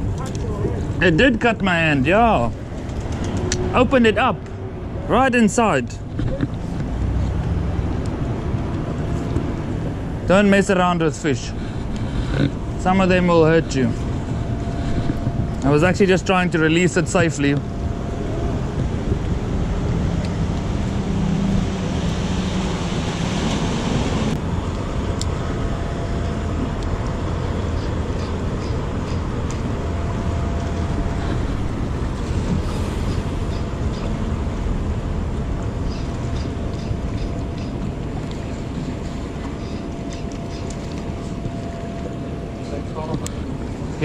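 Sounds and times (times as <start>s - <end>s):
faint constant hum: 0.0s - 44.0s
low mechanical rumble: 0.0s - 44.0s.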